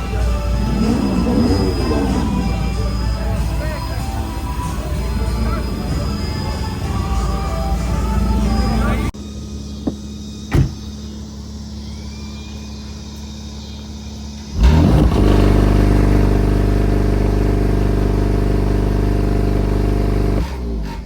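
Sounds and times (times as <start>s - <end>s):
car engine idling and revving: 0.0s - 11.8s, 13.0s - 21.0s.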